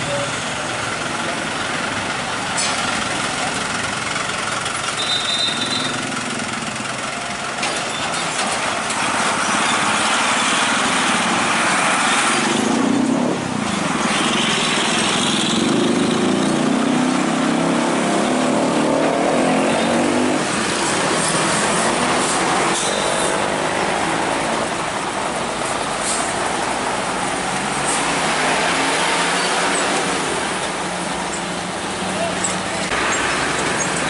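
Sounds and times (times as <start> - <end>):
diesel truck engines running: 0.0 - 34.0
tyres on the road: 0.0 - 34.0.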